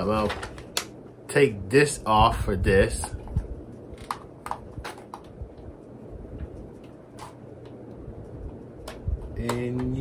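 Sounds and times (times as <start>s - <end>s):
faint low room hum: 0.0s - 10.0s.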